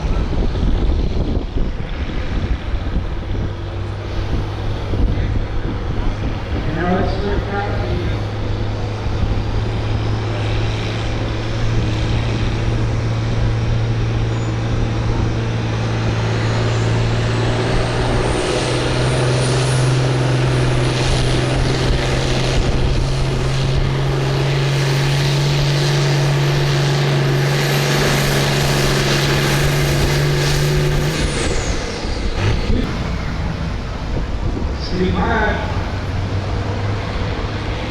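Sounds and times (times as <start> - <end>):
tractor engine running hard: 0.0 - 37.9.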